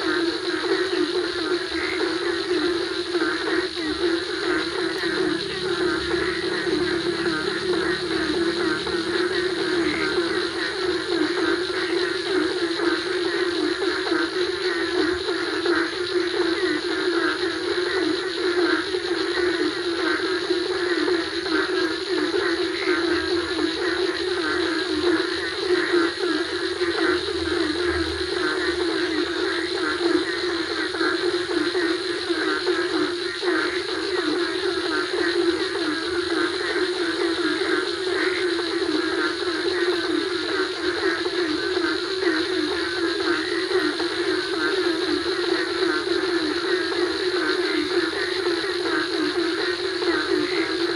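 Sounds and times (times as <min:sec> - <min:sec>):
frogs calling: 0:00.0 - 0:50.9
insects trilling: 0:00.0 - 0:50.9.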